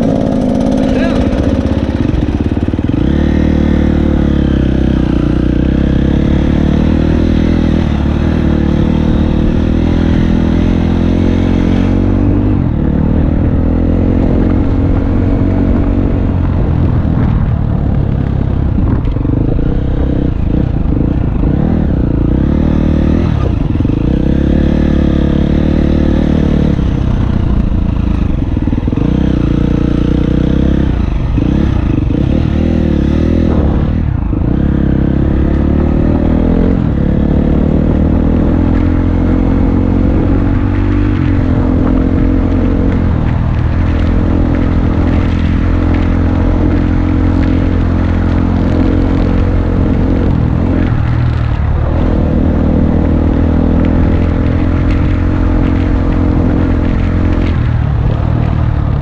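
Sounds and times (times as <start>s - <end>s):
dirt bike engine revving: 0.0s - 16.2s, 19.3s - 57.7s.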